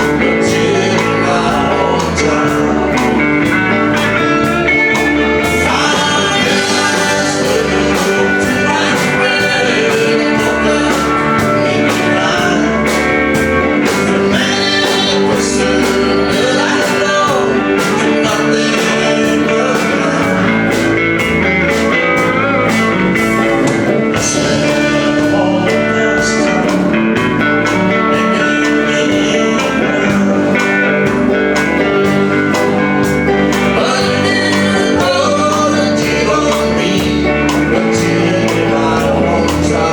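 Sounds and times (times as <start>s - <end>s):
guitar: 0.0s - 39.9s
live country band playing: 0.0s - 39.9s.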